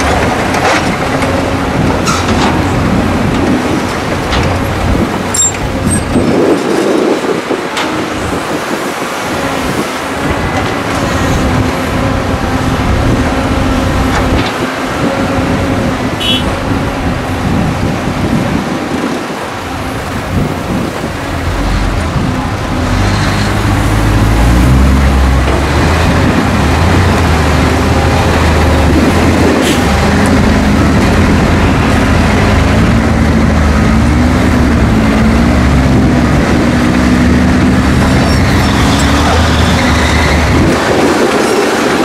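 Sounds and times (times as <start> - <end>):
diesel engines running: 0.0 - 42.0
dump truck engine rumble: 0.0 - 42.0.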